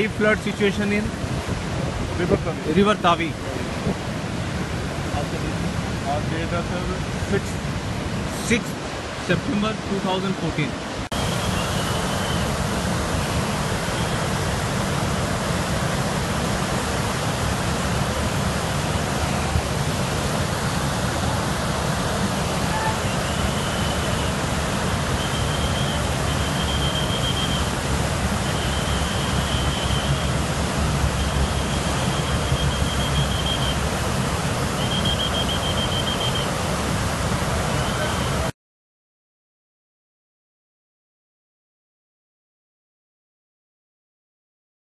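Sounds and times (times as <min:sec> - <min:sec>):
river water rushing: 0:00.0 - 0:38.5.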